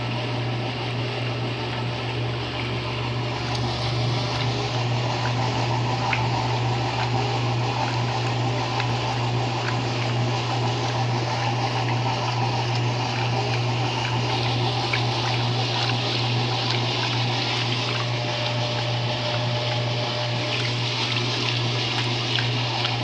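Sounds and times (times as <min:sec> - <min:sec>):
washing machine motor hum: 0:00.0 - 0:23.0
water moving in machine: 0:00.0 - 0:23.0.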